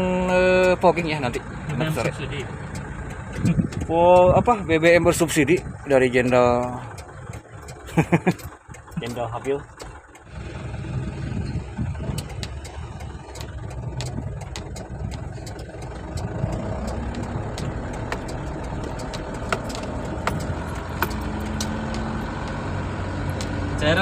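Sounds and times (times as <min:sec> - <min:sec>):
vehicle engine rumbling: 0:00.0 - 0:24.0
sharp clicks: 0:00.3 - 0:10.3, 0:12.1 - 0:22.6.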